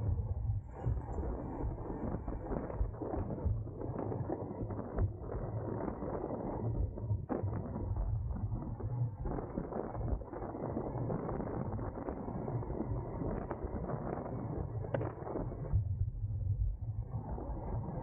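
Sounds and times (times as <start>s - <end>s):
muffled wind: 0.0s - 18.0s.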